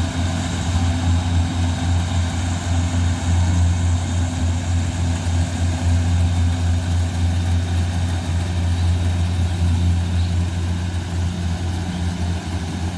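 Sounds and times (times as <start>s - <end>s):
harvester engine running: 0.0s - 12.9s.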